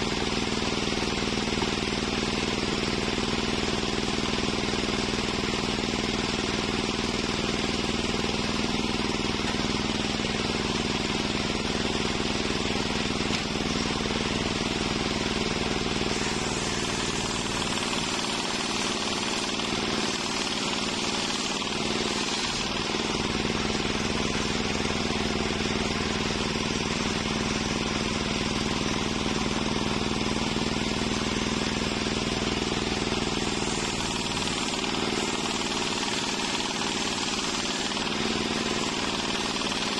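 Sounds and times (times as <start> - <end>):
circular saw cutting log: 0.0 - 39.9.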